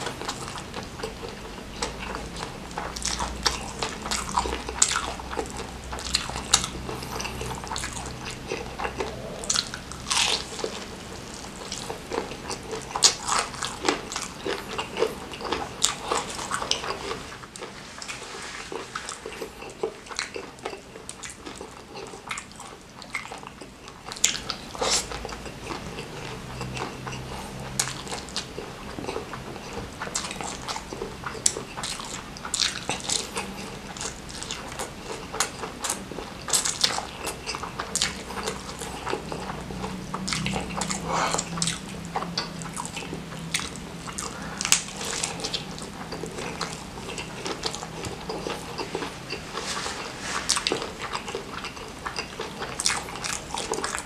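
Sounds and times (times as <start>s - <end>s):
chewing noodles: 0.0s - 54.0s.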